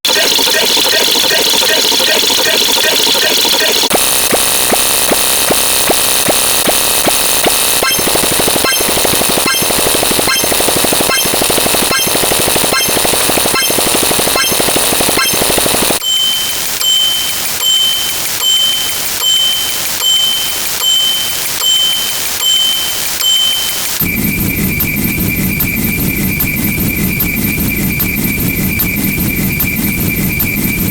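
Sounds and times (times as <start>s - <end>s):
layered sound effects clicking: 0.0s - 30.9s
repeating high beep: 0.0s - 30.9s.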